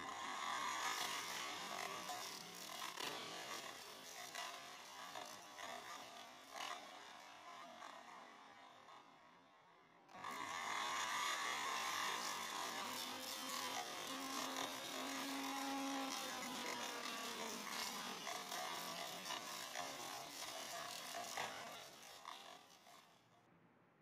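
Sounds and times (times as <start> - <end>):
electric blender motor running: 0.0 - 7.2, 10.1 - 23.1.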